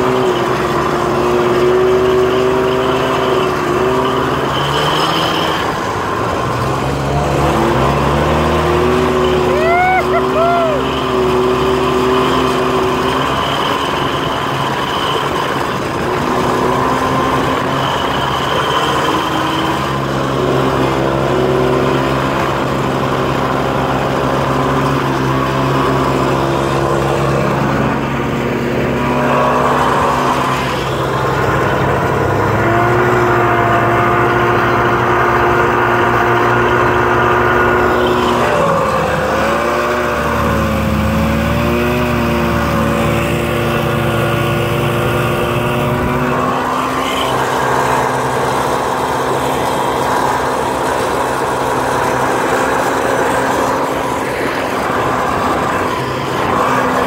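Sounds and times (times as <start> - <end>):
snowmobile engines droning: 0.0 - 57.0.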